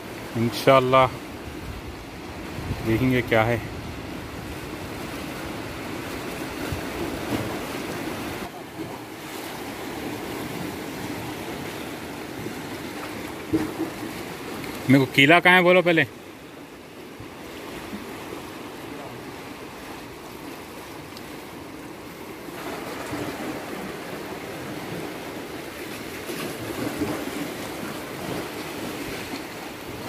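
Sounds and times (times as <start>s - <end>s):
waves washing against rocks: 0.0s - 16.7s, 17.4s - 30.0s.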